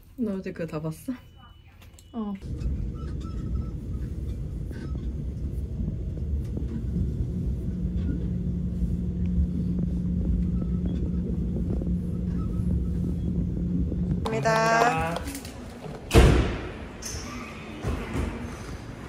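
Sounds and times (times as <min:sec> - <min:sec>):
steady hum: 0:00.1 - 0:19.0.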